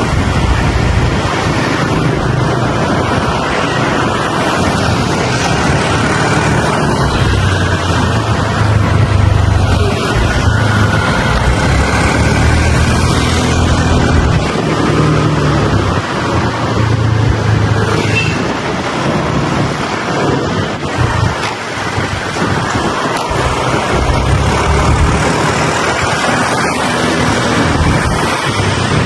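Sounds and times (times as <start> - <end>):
motorbike engine hum: 0.0 - 29.0
wind rushing over microphone: 0.0 - 29.0.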